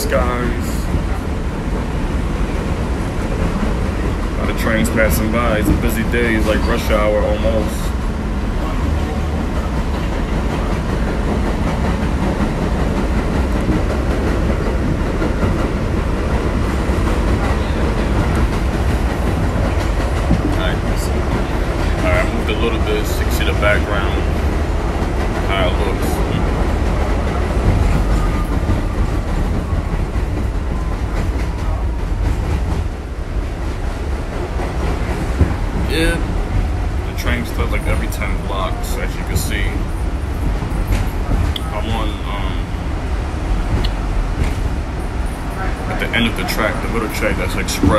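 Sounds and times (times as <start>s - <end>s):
train car rumbling and rattling: 0.0s - 47.9s.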